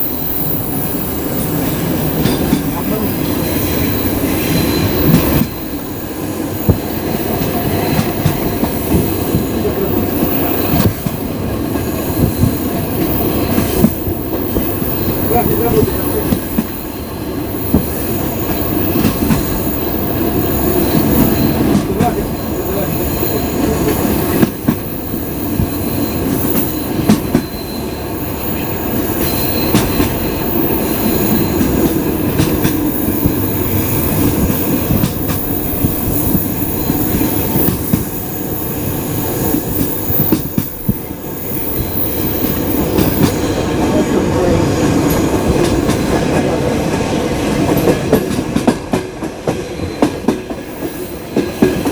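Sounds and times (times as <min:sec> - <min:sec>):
train wheels squealing: 0:00.0 - 0:46.4, 0:49.5 - 0:51.9
train wheels clacking over rail joints: 0:01.4 - 0:05.8, 0:06.6 - 0:16.9, 0:17.5 - 0:27.7, 0:28.5 - 0:38.5, 0:39.1 - 0:46.5.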